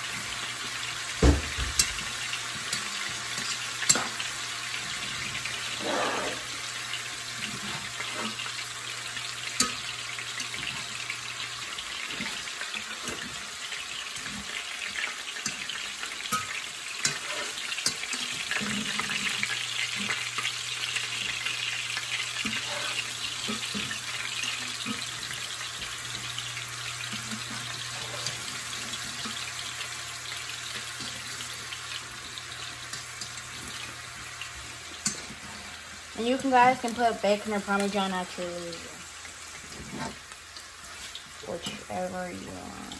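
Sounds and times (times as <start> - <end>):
fish cakes sizzling in oil: 0.0 - 42.9.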